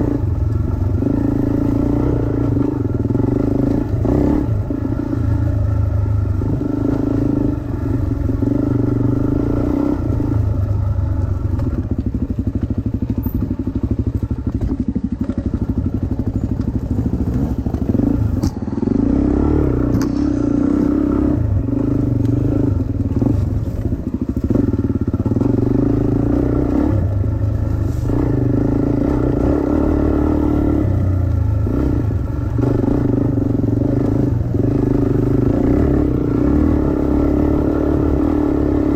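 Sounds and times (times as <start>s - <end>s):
dirt bike engine revving: 0.0s - 10.6s, 16.8s - 38.9s.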